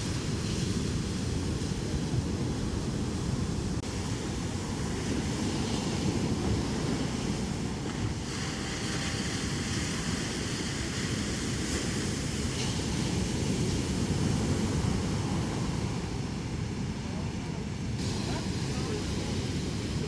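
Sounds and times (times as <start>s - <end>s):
surf breaking on shore: 0.0s - 20.0s
wind buffeting microphone: 0.0s - 20.0s.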